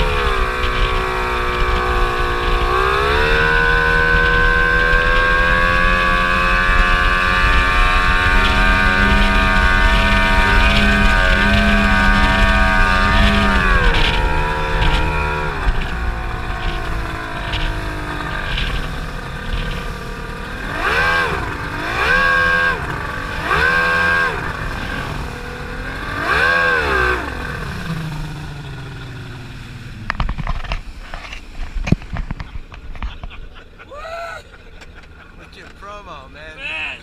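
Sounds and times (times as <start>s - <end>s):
speedboat engine revving: 0.0s - 31.5s.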